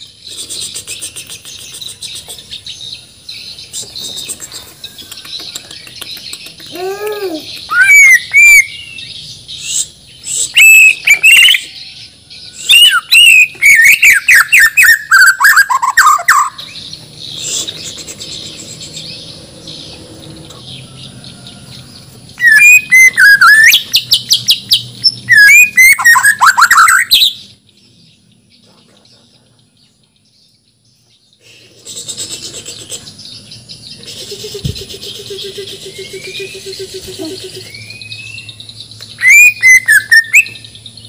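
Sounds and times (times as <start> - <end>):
bird singing whistles and chatter: 0.0 - 2.7, 3.6 - 11.9, 12.5 - 20.7, 22.4 - 27.4, 31.4 - 40.8.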